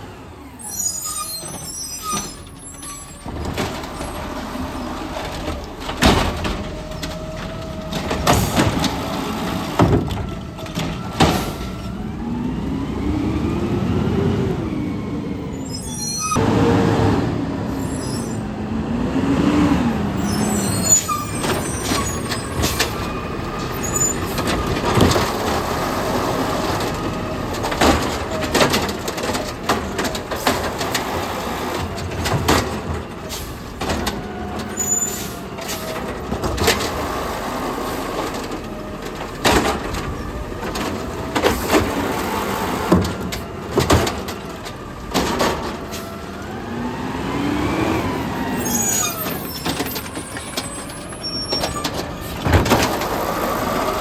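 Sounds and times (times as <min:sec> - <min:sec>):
garbage truck diesel engine revving: 0:00.0 - 0:54.0.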